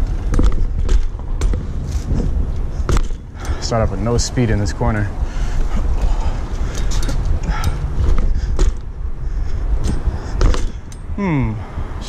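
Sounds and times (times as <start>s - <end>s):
bike clicks and knocks: 0.0s - 11.2s
wind on microphone: 0.0s - 12.0s.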